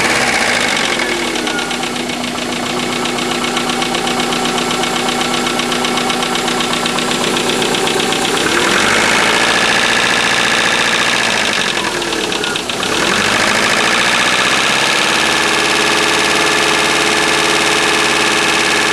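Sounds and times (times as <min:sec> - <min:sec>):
car engine running: 0:00.0 - 0:18.9
rhythmic engine knock: 0:00.0 - 0:18.9.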